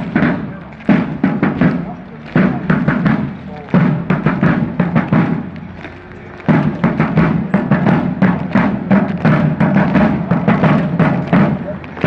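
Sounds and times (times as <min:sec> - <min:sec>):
field drum marching rhythm: 0:00.0 - 0:12.0.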